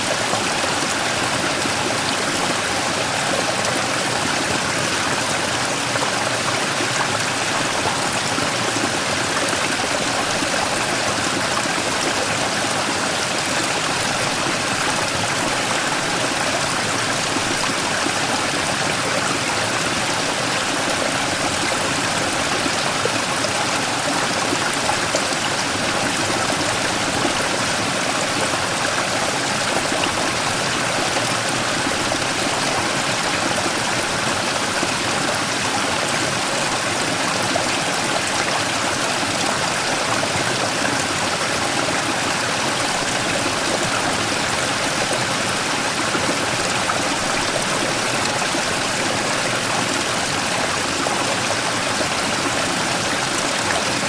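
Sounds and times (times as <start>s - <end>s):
stream rushing over rock: 0.0s - 54.0s.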